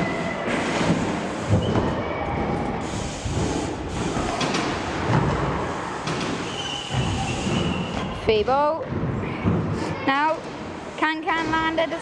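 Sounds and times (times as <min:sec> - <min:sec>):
bike tyres rolling on ramps: 0:00.1 - 0:09.8.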